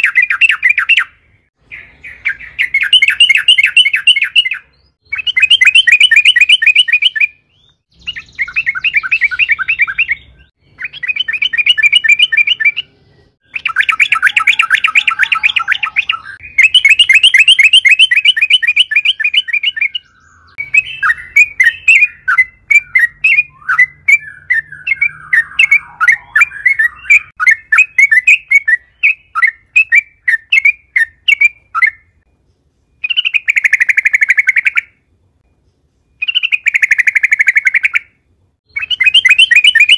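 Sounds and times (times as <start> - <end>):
bulbul singing rattled phrases: 0.0 - 39.9.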